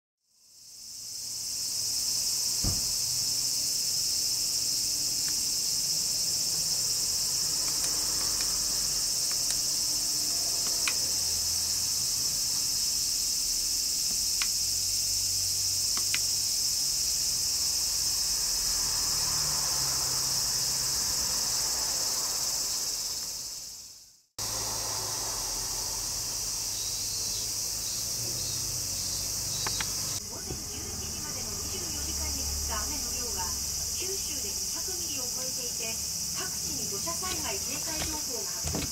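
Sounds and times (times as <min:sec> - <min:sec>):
insects buzzing: 0:00.4 - 0:38.9.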